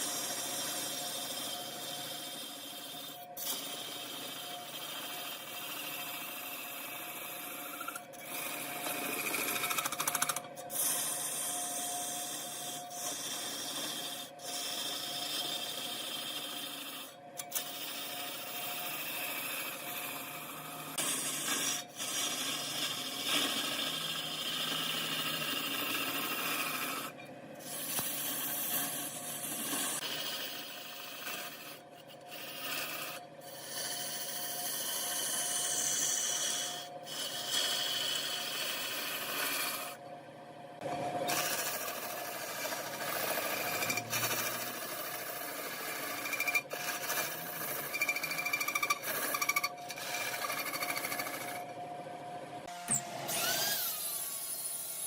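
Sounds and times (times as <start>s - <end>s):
lathe tool scraping wood: 0.0s - 40.0s, 41.2s - 51.8s
machine hum: 0.2s - 33.5s, 38.8s - 55.0s.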